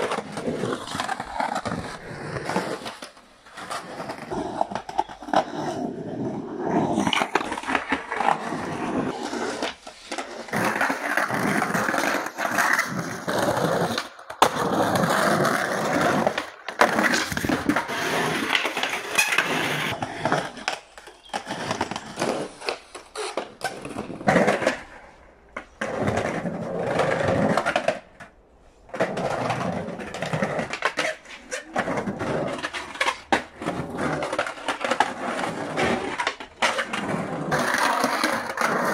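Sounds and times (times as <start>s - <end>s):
skateboard clacking on concrete: 0.0s - 38.9s
skateboard wheels rolling on concrete: 0.0s - 38.9s.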